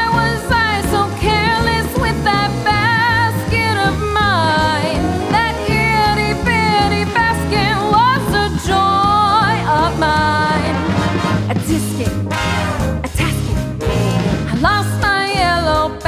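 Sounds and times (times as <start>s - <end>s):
person singing: 0.0s - 12.3s, 13.0s - 16.0s
big band swing music: 0.0s - 16.0s.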